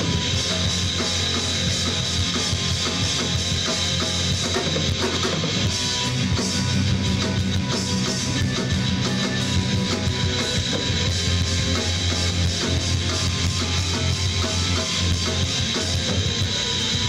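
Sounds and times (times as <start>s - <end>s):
bass guitar: 0.0s - 17.0s
distorted electric guitar: 0.0s - 17.0s
drum kit: 0.0s - 17.0s.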